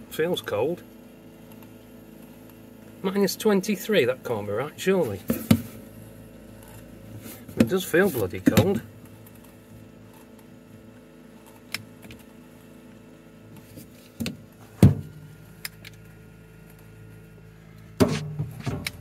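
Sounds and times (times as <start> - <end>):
fridge compressor hum: 0.0 - 19.0.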